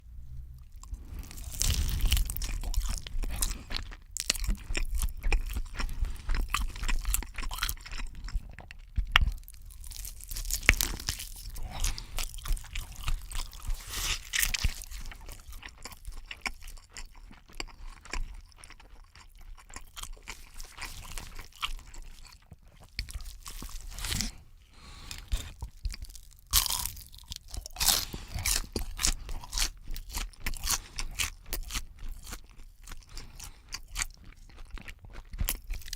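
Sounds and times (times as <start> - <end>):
crunchy food being chewed: 0.6 - 35.9.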